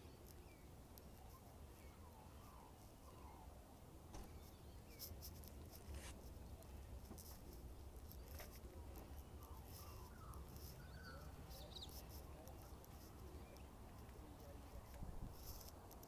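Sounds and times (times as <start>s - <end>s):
faint bird calls: 0.0s - 5.5s, 7.2s - 15.7s.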